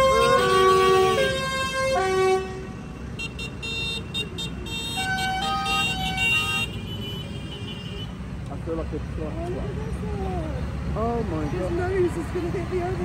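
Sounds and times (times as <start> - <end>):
tractor engines running: 0.0 - 13.0.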